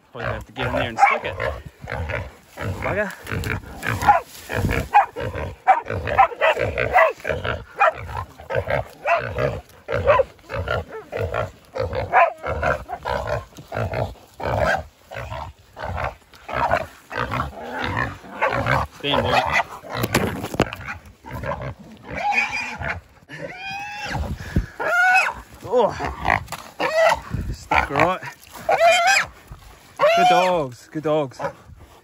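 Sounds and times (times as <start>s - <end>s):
pig squealing: 0.2s - 29.4s, 30.0s - 30.6s.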